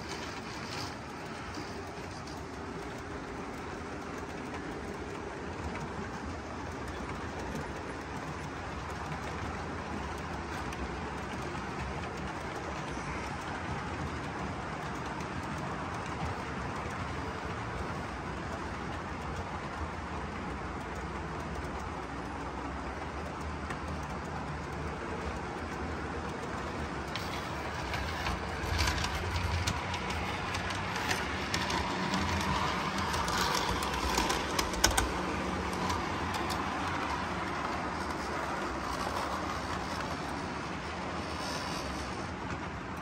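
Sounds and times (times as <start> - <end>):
model train clicks and rattles: 0.0 - 43.0
model train motors humming: 0.0 - 43.0.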